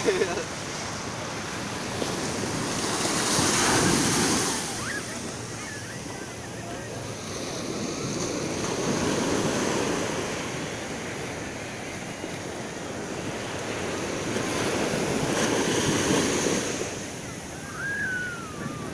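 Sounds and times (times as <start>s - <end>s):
sea waves washing onto beach: 0.0s - 18.9s.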